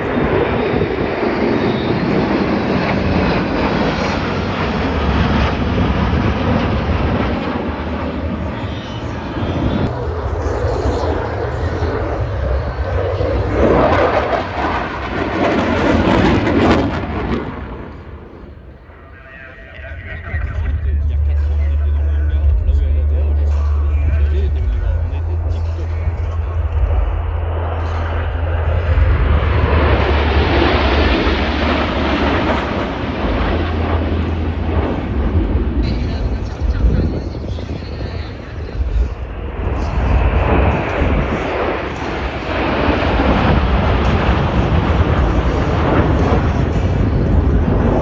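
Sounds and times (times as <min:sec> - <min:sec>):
jet roar passing overhead: 0:00.0 - 0:48.0.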